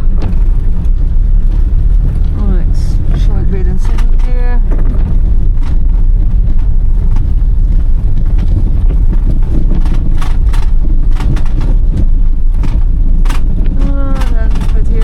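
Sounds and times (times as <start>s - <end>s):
car engine and tyres rumbling: 0.0s - 15.0s
car knocks and clunks over bumps: 0.0s - 15.0s.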